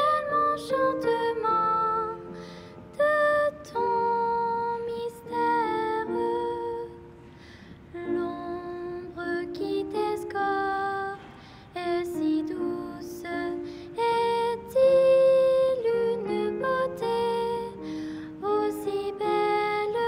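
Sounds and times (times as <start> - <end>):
girl singing slow song: 0.0 - 20.0.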